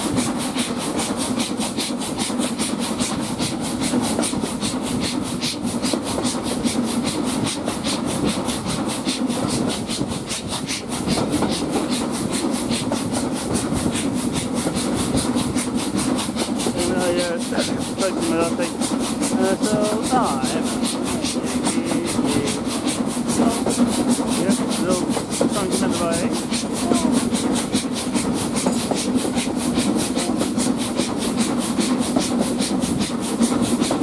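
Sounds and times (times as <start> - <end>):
coaches rumbling on rails: 0.0 - 34.0
steam locomotive exhaust beat: 0.0 - 34.0.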